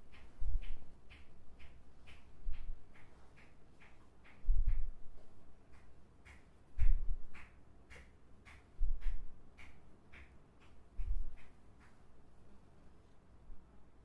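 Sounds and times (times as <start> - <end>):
light clicking taps: 0.0 - 12.1.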